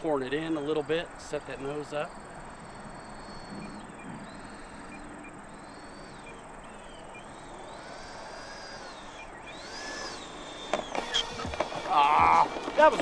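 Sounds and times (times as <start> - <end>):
electric ducted fan whining: 0.0 - 13.0
outdoor noise: 0.0 - 13.0.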